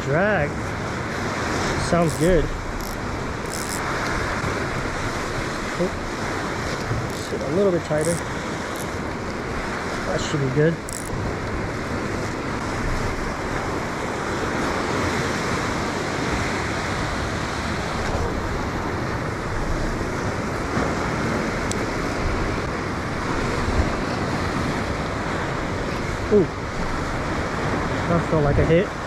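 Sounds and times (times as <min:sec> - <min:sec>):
surf washing against rocks: 0:00.0 - 0:29.0
wind on microphone: 0:00.6 - 0:28.1.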